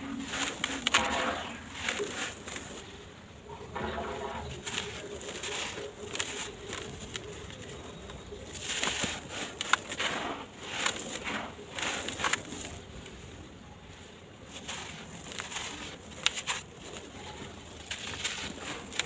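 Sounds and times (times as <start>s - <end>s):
blocks crumbling with gritty crunches: 0.0s - 2.9s, 3.6s - 13.2s, 14.4s - 19.0s.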